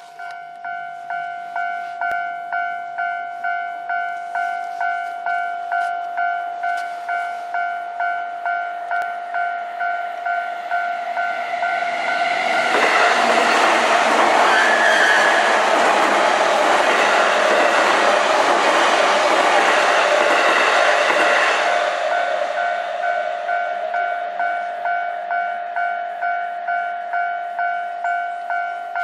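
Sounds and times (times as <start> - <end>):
level crossing alarm ringing: 0.0 - 29.0
electric train passing: 3.4 - 29.0.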